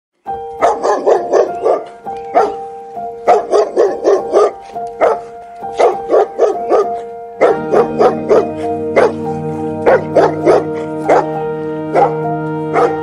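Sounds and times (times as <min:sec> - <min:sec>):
background music: 0:00.2 - 0:13.0
dog barking: 0:00.6 - 0:02.6, 0:03.3 - 0:09.2, 0:09.8 - 0:11.3, 0:11.9 - 0:13.0.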